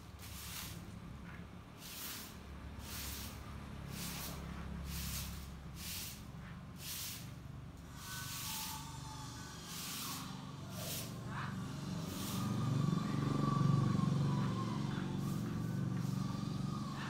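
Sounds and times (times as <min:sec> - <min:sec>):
broom sweeping tiles: 0:00.0 - 0:12.7, 0:14.4 - 0:17.0.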